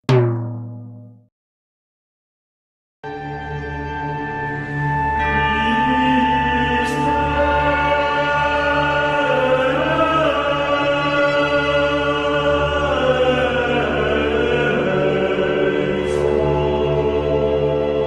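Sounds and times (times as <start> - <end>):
choir-like chords: 3.2 - 18.0.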